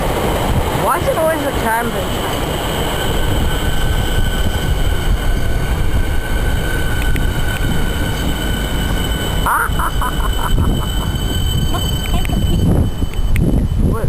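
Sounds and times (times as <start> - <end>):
train rumbling: 0.0 - 14.0
high-pitched tone: 0.8 - 14.0.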